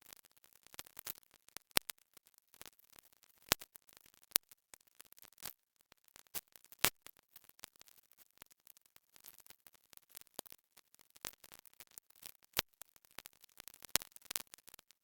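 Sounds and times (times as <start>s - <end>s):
sharp ticks and clicks: 0.0s - 15.0s.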